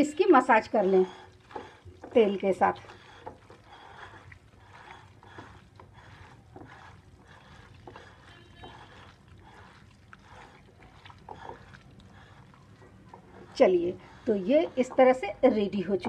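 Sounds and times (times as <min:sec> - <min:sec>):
hands kneading wet meat: 0:00.0 - 0:16.0.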